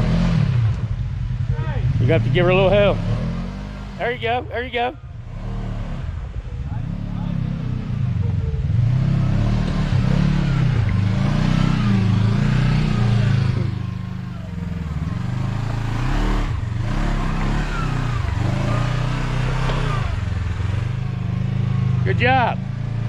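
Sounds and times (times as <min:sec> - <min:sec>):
engine revving in surges: 0:01.8 - 0:23.0.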